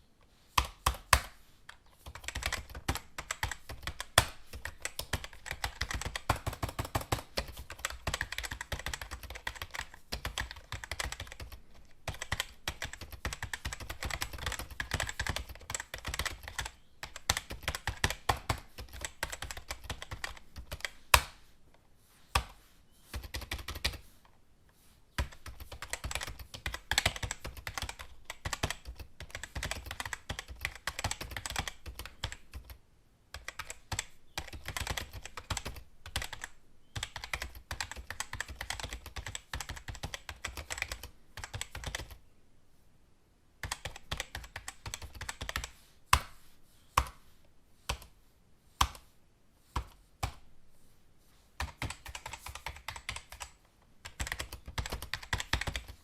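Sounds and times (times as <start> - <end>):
typing on a keyboard: 0.6 - 21.2, 23.1 - 24.0, 25.2 - 42.2, 43.6 - 45.8, 51.6 - 56.0.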